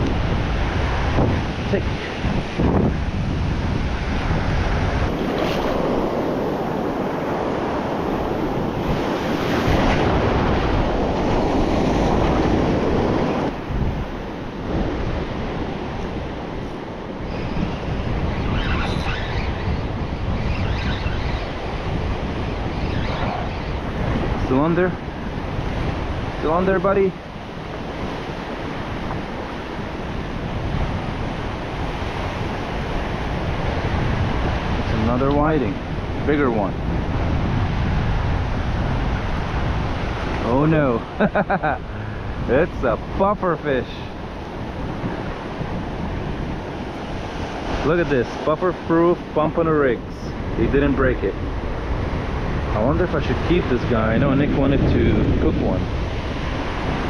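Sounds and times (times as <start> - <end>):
ocean surf washing and foaming: 0.0 - 57.0
wind rumbling on microphone: 0.0 - 57.0.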